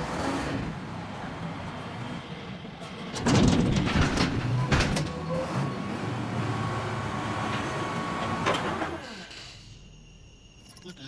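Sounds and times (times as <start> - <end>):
garbage truck engine and hydraulics: 0.0 - 10.8.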